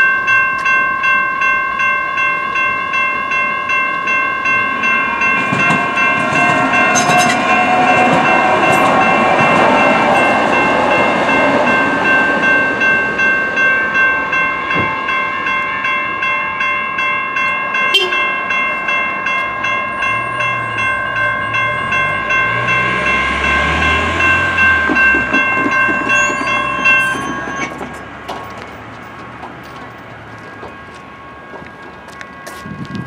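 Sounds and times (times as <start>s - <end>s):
railroad crossing bells ringing: 0.0s - 33.0s.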